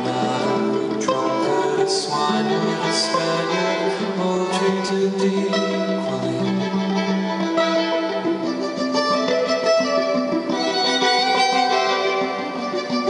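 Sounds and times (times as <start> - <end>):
amplified solo violin: 0.0 - 13.0.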